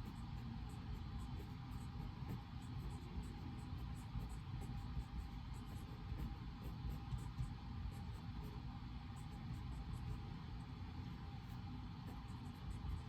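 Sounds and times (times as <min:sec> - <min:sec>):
low rumbling room noise: 0:00.0 - 0:13.0.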